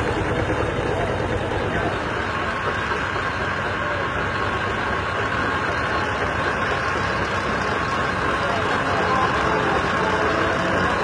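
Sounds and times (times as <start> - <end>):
old tractor engine running: 0.0 - 11.0.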